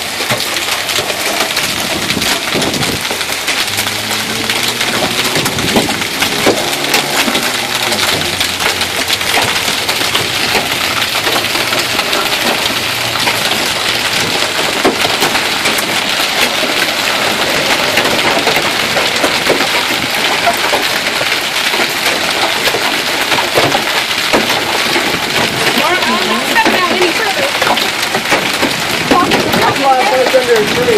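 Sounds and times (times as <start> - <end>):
hailstones striking hard surfaces: 0.0 - 30.9
heavy rain: 0.0 - 30.9.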